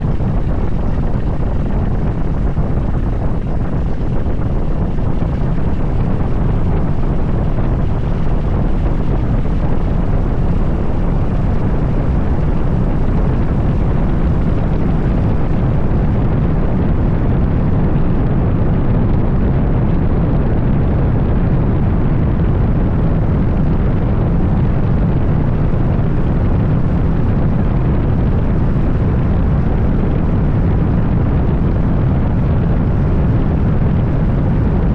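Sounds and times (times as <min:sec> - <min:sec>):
light aircraft engine and propeller: 0:00.0 - 0:34.9
wind noise on microphone: 0:00.0 - 0:34.9.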